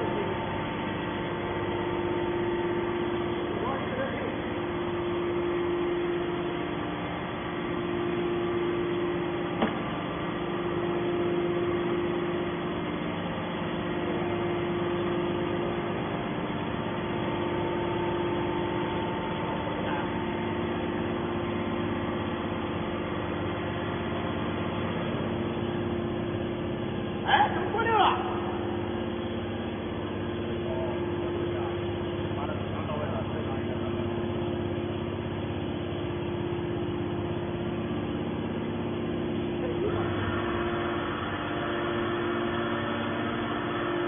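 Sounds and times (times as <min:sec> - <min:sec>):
hydraulic motor and pump humming: 0:00.0 - 0:44.0.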